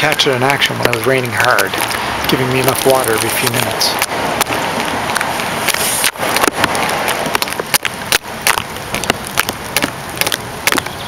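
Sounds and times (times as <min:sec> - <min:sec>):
hard rain hissing: 0:00.0 - 0:11.0
raindrops clicking and dripping: 0:00.0 - 0:11.0.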